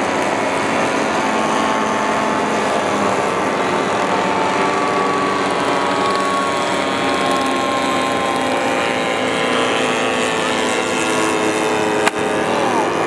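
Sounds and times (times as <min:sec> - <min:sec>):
model airplane engines droning: 0:00.0 - 0:13.0.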